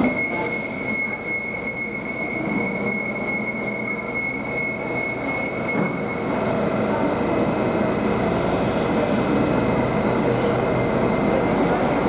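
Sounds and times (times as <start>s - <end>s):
high-pitched train wheel squeal: 0.0s - 12.0s.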